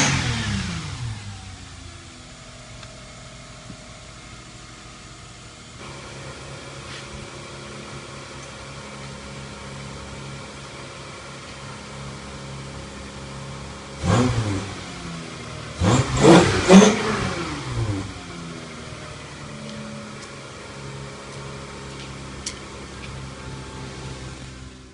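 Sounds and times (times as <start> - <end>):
car engine idling and revving: 0.0 - 24.9.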